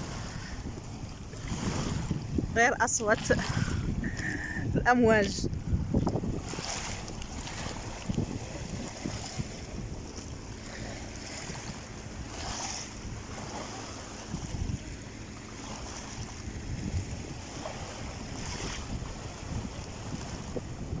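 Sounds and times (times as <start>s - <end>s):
sea waves washing on shore: 0.0s - 21.0s
wind buffeting microphone: 0.0s - 21.0s.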